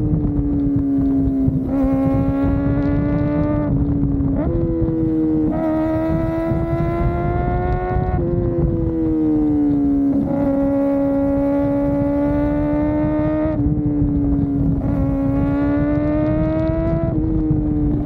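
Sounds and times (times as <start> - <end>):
motorcycle engine at high revs: 0.0 - 18.0
road rumble: 0.0 - 18.0
wind: 0.0 - 18.0.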